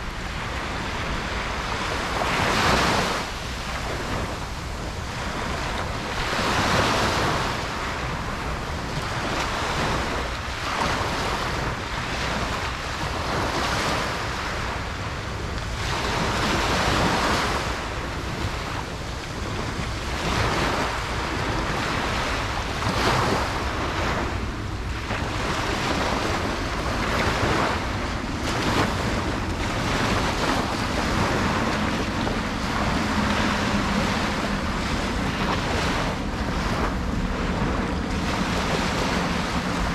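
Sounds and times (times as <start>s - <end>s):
ocean waves breaking on beach: 0.0s - 39.9s
wind buffeting microphone: 0.0s - 39.9s.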